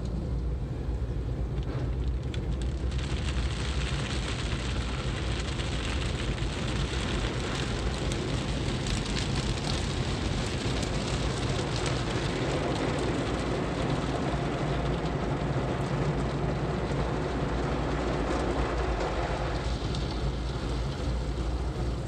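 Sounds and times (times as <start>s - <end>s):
water spraying on car: 1.5s - 22.0s.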